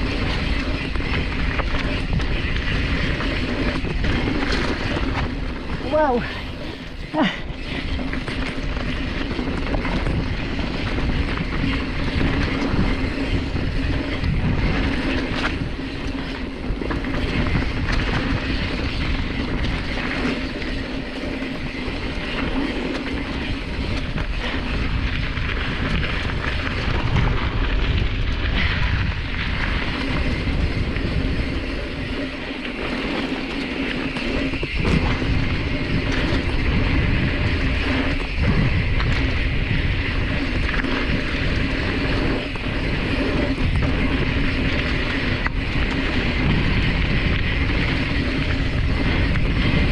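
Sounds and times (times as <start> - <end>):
bike rattling over dirt trail: 0.0 - 49.9.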